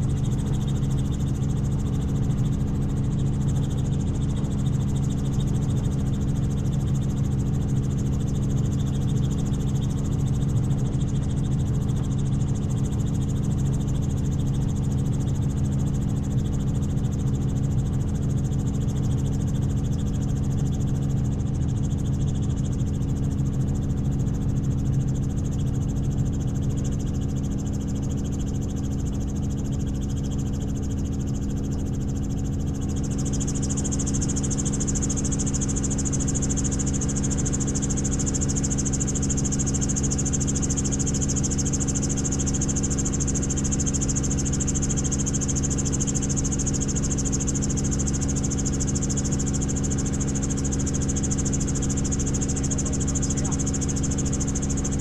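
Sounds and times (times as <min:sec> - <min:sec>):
helicopter rotor drone: 0:00.0 - 0:55.0
helicopter turbine whine: 0:00.0 - 0:55.0.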